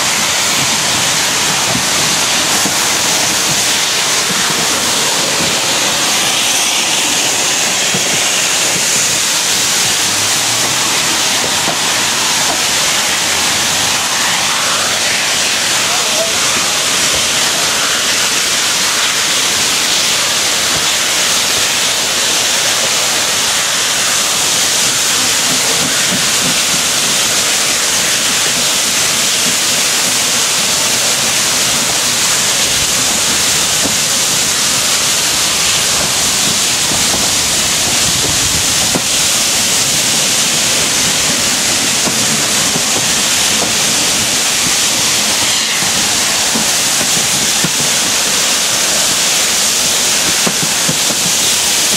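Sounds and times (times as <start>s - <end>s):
steam locomotive exhaust and hiss: 0.0s - 51.9s.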